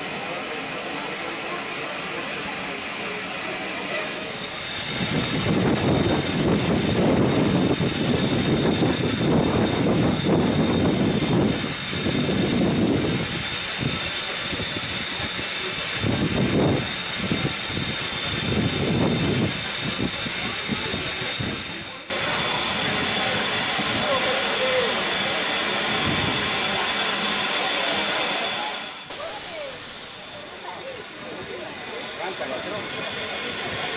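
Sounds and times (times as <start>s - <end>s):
steam hissing from a locomotive: 0.0s - 33.9s.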